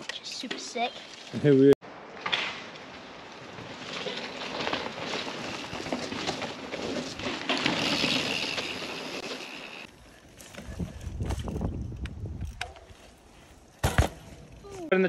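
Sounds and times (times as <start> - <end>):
bike tyres crackling over dirt: 0.0 - 15.0.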